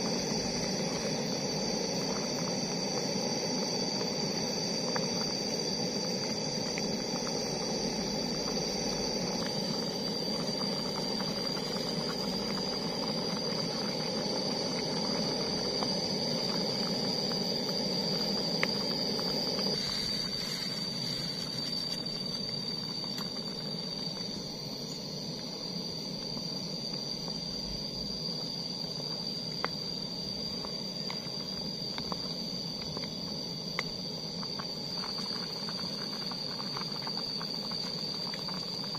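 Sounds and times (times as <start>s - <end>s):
gas stove burner hissing: 0.0s - 38.9s.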